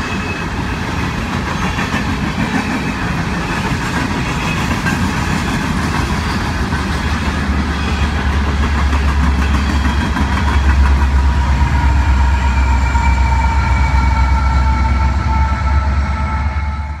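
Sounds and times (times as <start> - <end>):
diesel locomotive engine rumble: 0.0 - 17.0
hopper cars rolling on rails: 0.0 - 17.0.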